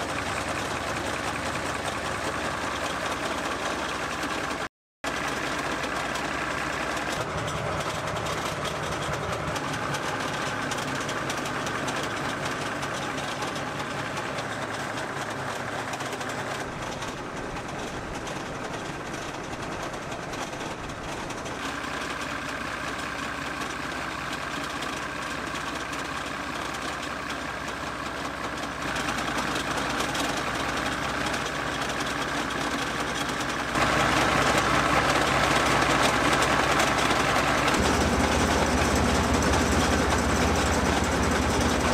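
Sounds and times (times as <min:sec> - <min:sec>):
tank diesel engine idling: 0:00.0 - 0:41.9.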